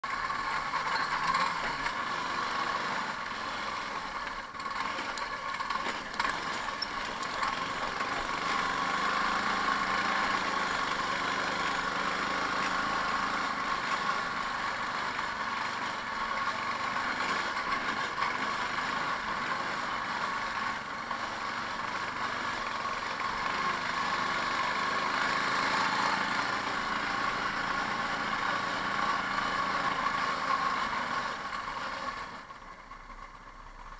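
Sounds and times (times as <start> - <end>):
go-kart engine running: 0.0 - 33.9.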